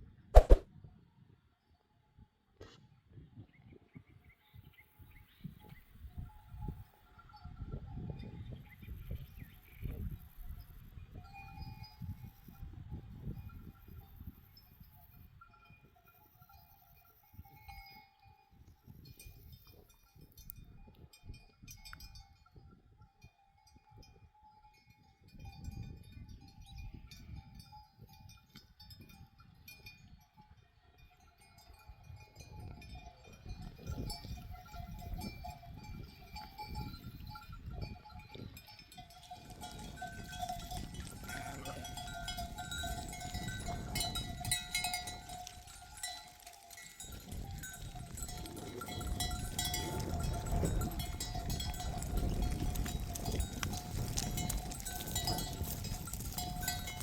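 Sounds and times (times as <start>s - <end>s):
animal bells clanking: 5.0s - 57.0s.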